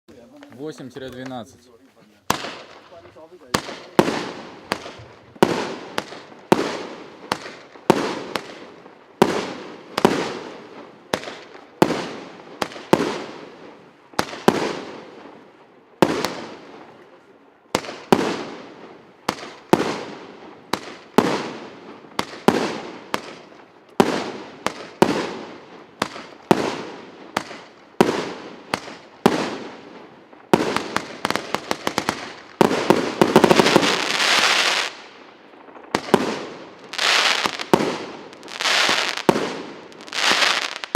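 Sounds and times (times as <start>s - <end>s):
firework crackle: 0.2s - 40.9s.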